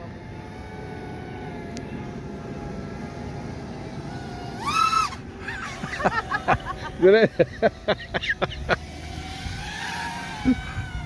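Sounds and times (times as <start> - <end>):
faint steady tones: 0.0 - 11.0.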